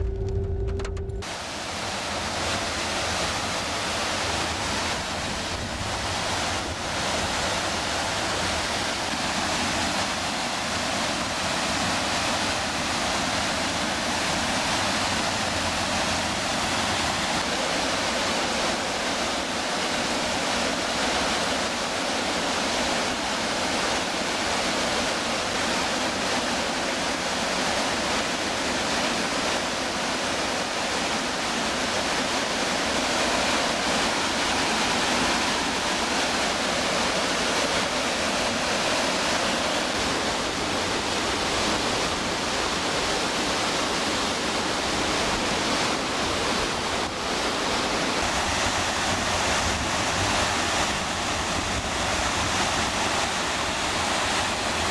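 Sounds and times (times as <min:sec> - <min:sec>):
river rushing over rapids: 0:01.2 - 0:54.9.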